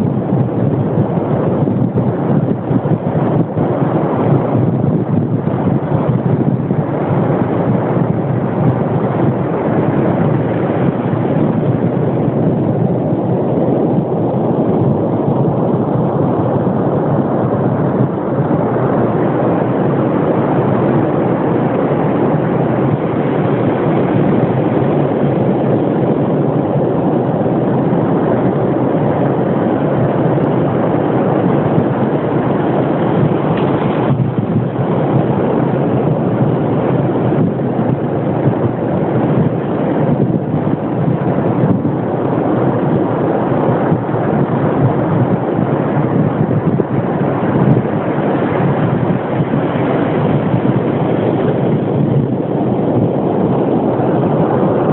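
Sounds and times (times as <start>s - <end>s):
surf on a beach: 0.0s - 54.9s
wind: 0.0s - 54.9s.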